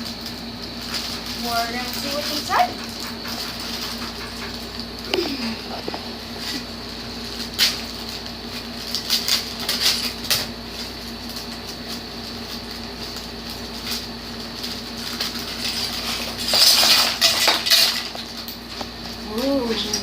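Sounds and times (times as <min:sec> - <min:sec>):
plastic bags crinkling: 0:00.0 - 0:20.0
steady low hum: 0:00.0 - 0:20.0.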